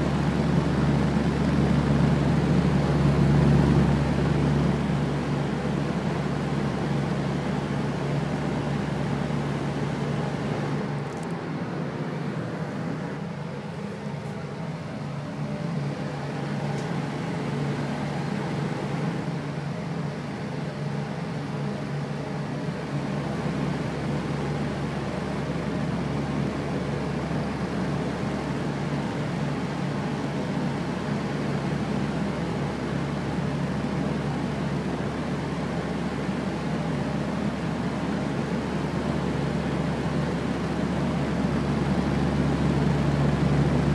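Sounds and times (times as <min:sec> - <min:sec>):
electric fan running: 0:00.0 - 0:43.9.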